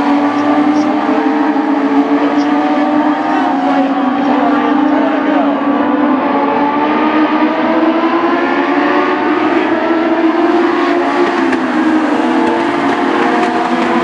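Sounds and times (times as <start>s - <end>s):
race car engines at high revs: 0.0s - 14.0s.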